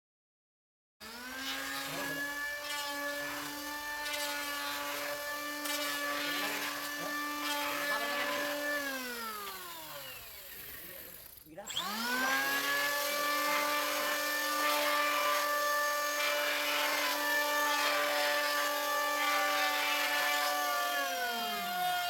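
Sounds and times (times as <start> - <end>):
electric woodworking tool running: 1.0 - 22.0
tool rasping on wood: 1.1 - 22.0.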